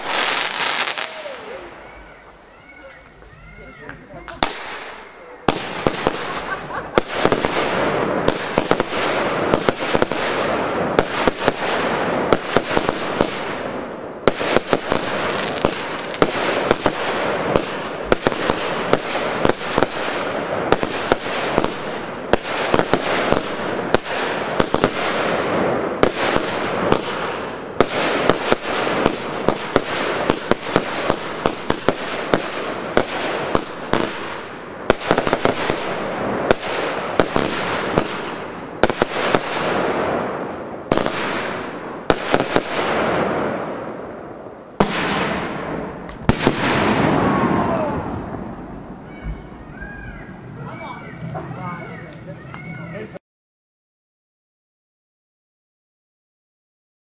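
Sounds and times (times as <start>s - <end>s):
firework bangs: 0.0s - 53.1s
rushing noise of fireworks: 0.0s - 53.2s.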